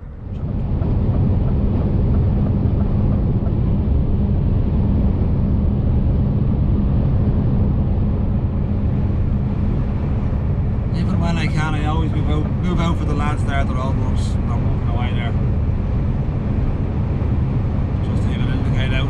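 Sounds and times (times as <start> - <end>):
lorry engine and road rumble: 0.0 - 19.0.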